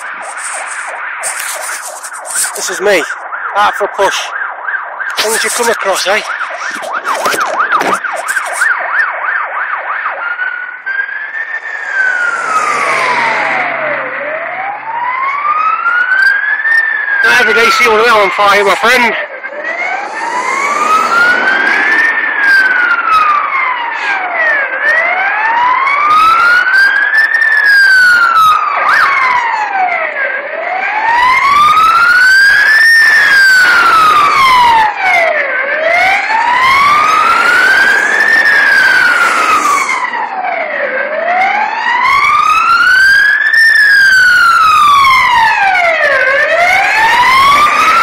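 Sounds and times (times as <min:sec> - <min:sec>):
fire engine siren wailing: 0:00.0 - 0:48.0.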